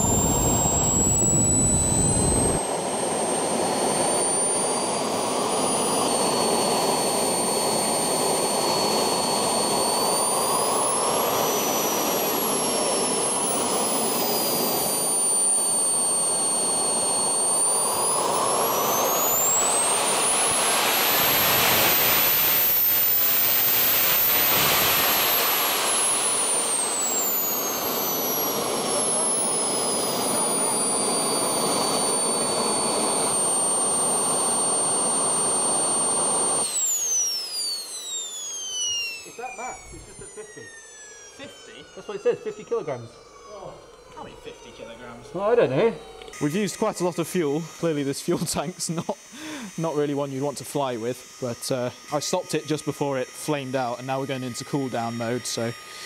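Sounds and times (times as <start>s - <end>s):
turbine jet engine running: 0.0s - 56.0s.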